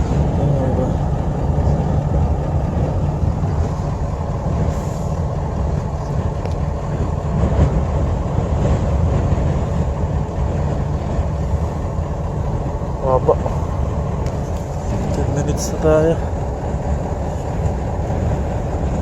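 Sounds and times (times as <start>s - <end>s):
car interior rumble: 0.0s - 19.0s.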